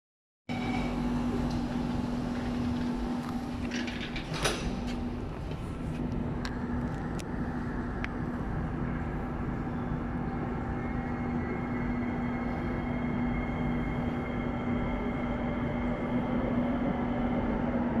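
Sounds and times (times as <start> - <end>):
train electrical hum: 0.5 - 18.0
train rumble: 0.5 - 18.0.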